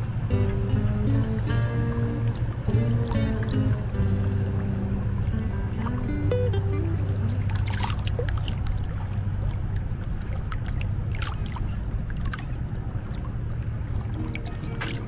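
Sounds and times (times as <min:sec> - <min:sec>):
boat engine humming: 0:00.0 - 0:15.0
water rushing past hull: 0:00.0 - 0:15.0
water splashes: 0:00.0 - 0:15.0.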